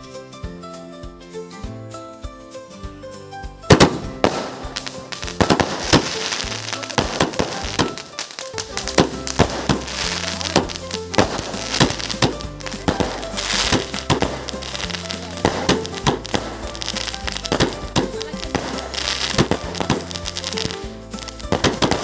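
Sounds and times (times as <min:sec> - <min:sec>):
firework hiss: 0:03.7 - 0:22.0
fireworks banging: 0:03.7 - 0:22.0.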